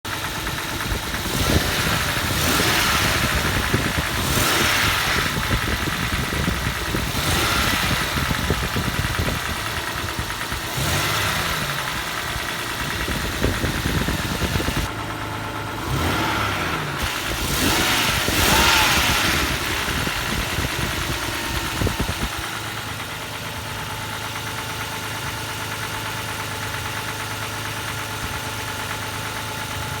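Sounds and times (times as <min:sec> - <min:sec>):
engine knock: 0:00.0 - 0:30.0
car engine revving and idling: 0:00.1 - 0:30.0.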